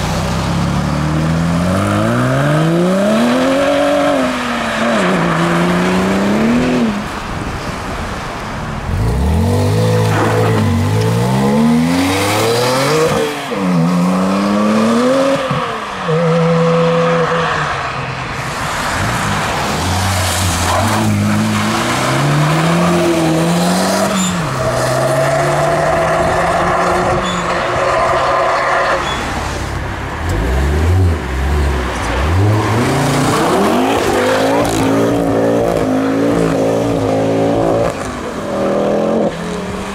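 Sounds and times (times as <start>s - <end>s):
cars accelerating hard: 0.0s - 7.4s, 8.8s - 39.9s.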